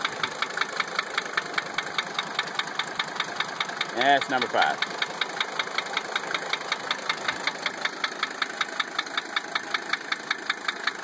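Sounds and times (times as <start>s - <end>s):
diesel engine idling: 0.0s - 11.0s
sharp regular engine tapping: 0.0s - 11.0s.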